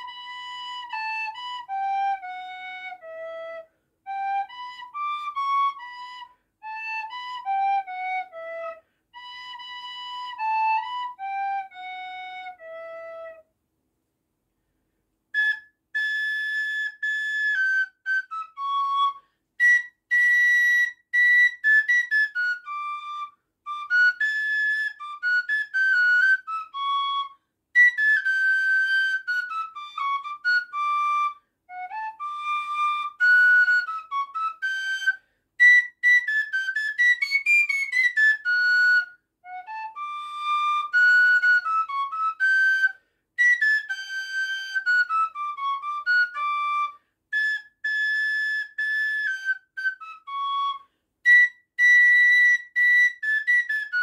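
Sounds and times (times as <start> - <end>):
small wooden flute tune: 0.0 - 13.6, 14.7 - 54.0.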